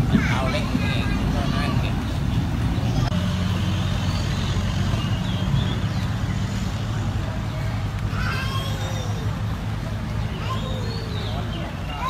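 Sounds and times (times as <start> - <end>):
faint voices: 0.0 - 4.0, 6.0 - 12.0.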